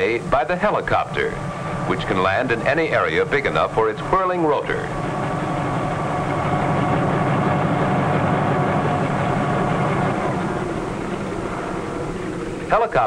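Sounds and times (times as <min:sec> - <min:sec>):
helicopter engine and rotor droning: 0:00.0 - 0:13.0.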